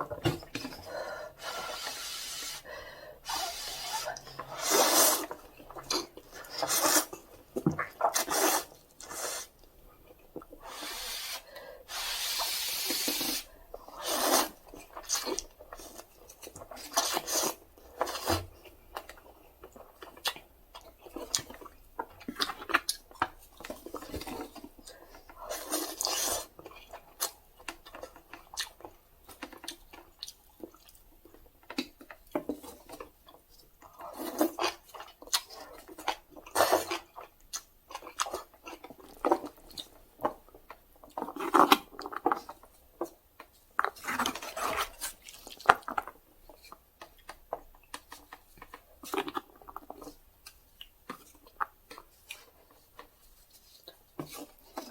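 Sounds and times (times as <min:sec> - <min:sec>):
noodles slurped and chewed: 0:00.5 - 0:53.2.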